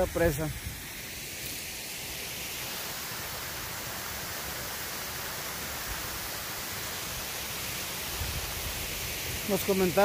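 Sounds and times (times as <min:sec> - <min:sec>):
waterfall rushing water: 0:00.0 - 0:10.0.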